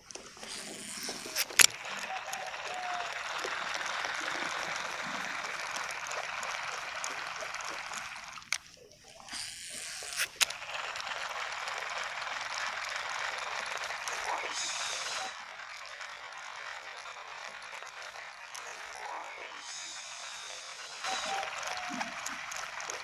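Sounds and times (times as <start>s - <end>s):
sharp clicks: 0.0s - 23.0s
water rushing: 0.0s - 23.0s.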